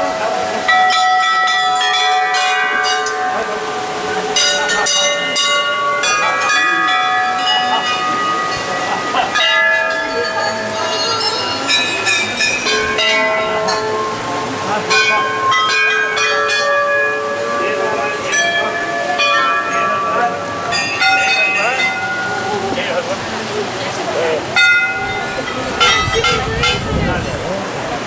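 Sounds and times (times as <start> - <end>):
temple bells ringing: 0.0 - 28.0.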